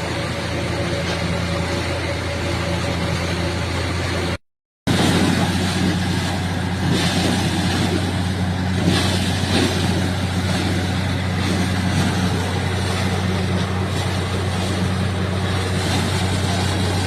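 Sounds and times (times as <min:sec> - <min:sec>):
drilling rig diesel engine drone: 0:00.0 - 0:17.0.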